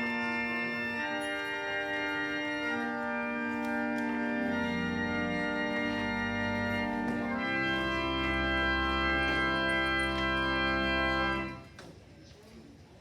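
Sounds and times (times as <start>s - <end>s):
church organ chords: 0.0s - 11.7s.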